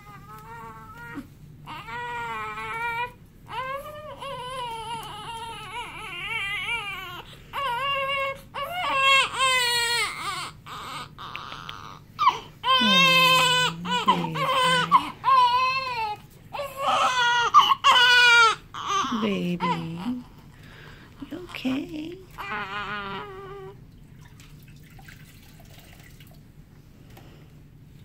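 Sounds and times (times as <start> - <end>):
newborn baby crying: 0.0 - 20.5, 21.2 - 23.8.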